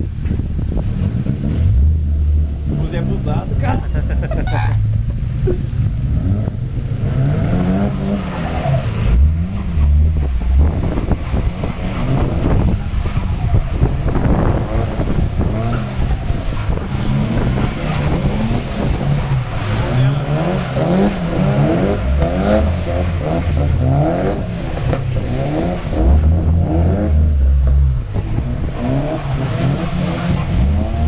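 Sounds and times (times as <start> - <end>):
car engines revving: 0.0 - 31.0
deep engine rumble: 0.0 - 31.0.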